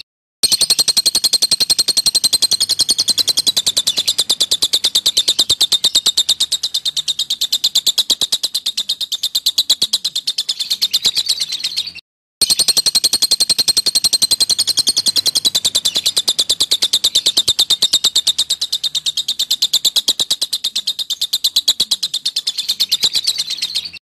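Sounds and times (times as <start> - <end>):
lovebird chattering shrill chirps: 0.4 - 24.0.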